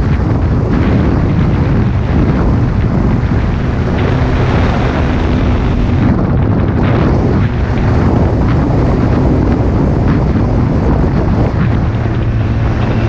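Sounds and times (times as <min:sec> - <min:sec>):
faint motorcycle engine: 0:00.0 - 0:13.0
wind buffeting on microphone: 0:00.0 - 0:13.0.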